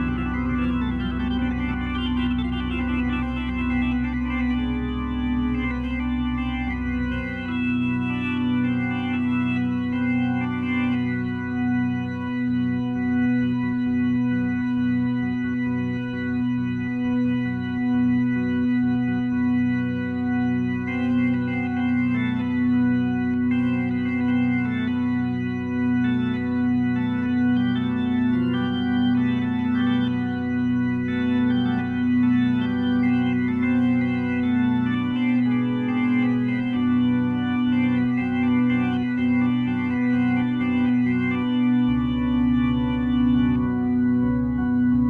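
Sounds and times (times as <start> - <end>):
organ-like keyboard chords: 0.0 - 45.0.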